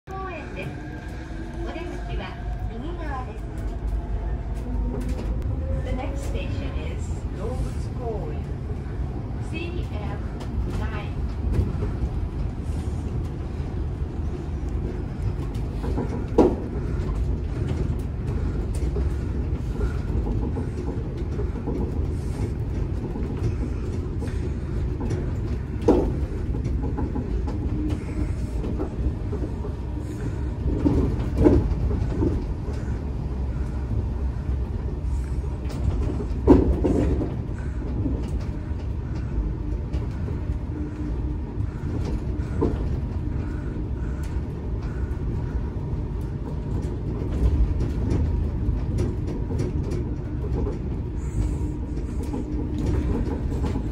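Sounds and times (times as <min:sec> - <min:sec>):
monorail cabin rumble: 0:00.0 - 0:53.9.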